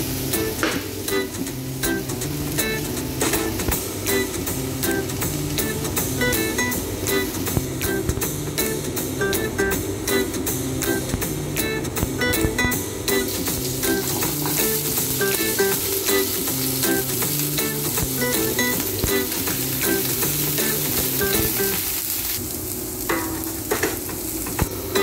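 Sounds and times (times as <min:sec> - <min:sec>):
vegetables sizzling in oil: 0:00.0 - 0:09.2, 0:13.1 - 0:25.0
quiet background music: 0:00.0 - 0:22.4.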